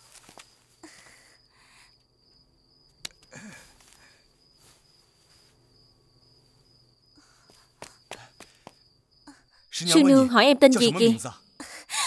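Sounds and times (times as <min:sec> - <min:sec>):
cricket trill: 0:00.0 - 0:12.0.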